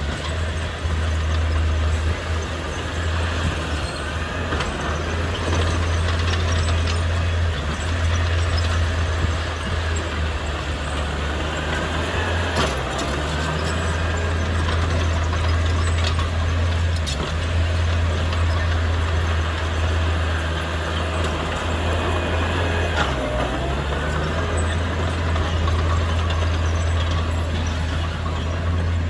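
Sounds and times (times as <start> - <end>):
heavy diesel engine droning: 0.0 - 29.0.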